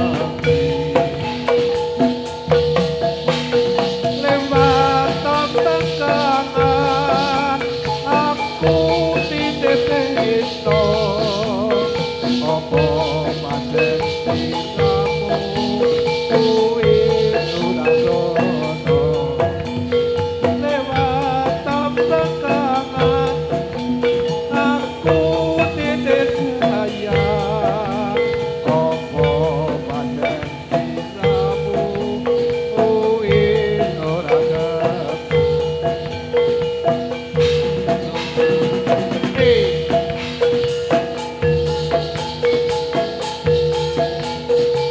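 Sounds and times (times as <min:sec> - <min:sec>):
hand drum strokes: 0:00.0 - 0:44.9
metal mallet instruments melody: 0:00.0 - 0:44.9.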